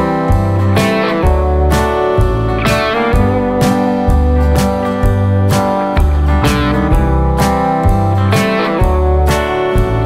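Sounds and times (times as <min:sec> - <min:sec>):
music with beat and bass line: 0:00.0 - 0:10.0.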